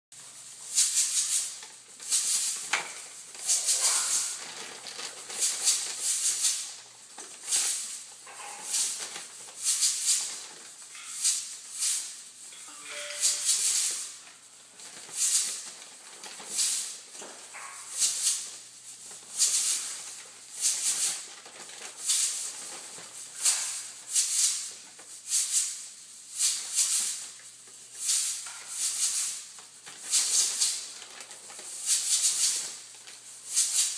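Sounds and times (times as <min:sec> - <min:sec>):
plastic bag crinkling: 0:00.2 - 0:26.2, 0:26.9 - 0:33.9.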